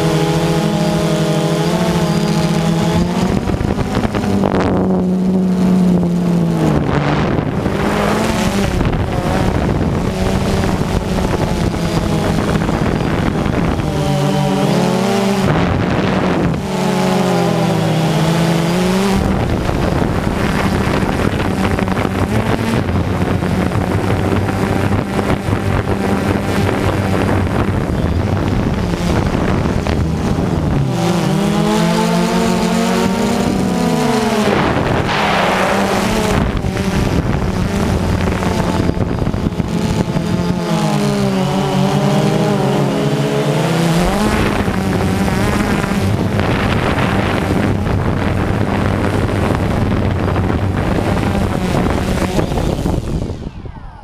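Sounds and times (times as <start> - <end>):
drone propellers buzzing: 0.0 - 54.0
wind noise: 0.0 - 54.0.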